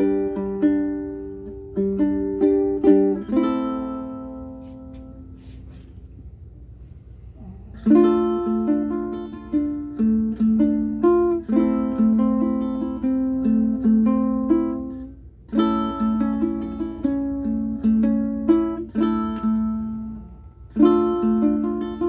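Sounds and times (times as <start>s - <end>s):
ukulele fingerpicking: 0.0s - 5.6s, 7.9s - 20.0s, 20.7s - 22.0s.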